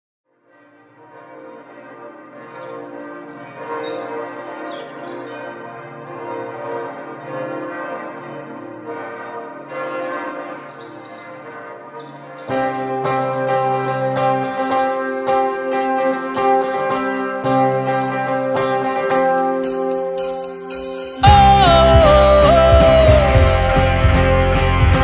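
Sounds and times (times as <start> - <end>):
church bells pealing: 1.1 - 25.0.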